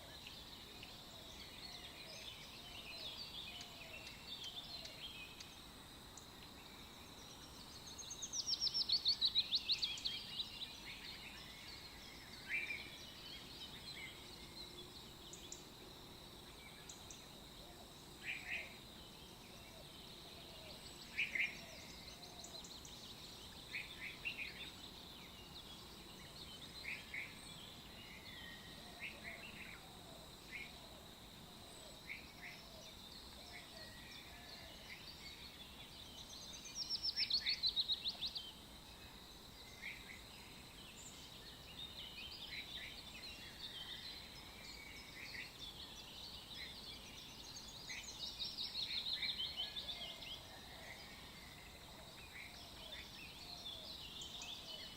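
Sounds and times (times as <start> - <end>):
faint high-pitched whine: 0.0 - 54.9
small birds chirping: 0.0 - 54.9.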